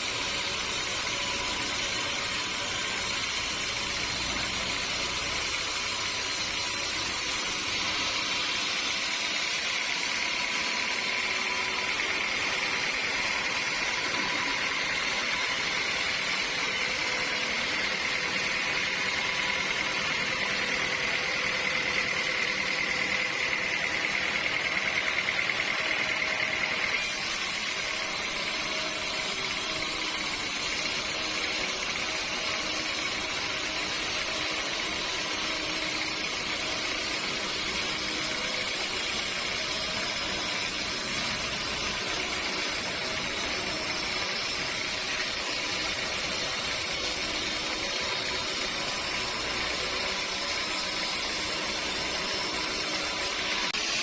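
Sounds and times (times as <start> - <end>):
high saw whine: 0.0 - 54.0
saw machine noise: 0.0 - 54.0.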